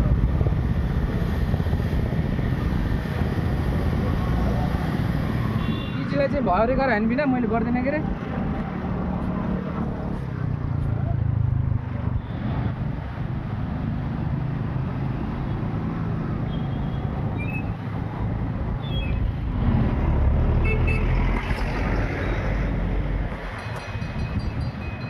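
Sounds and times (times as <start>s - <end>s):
road traffic engine rumble: 0.0s - 25.0s.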